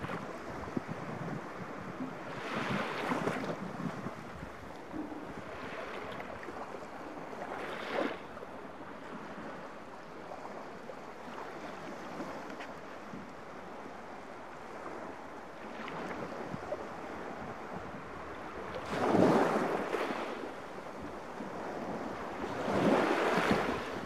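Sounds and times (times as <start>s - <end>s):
small waves lapping on sandy shore: 0.0s - 24.0s.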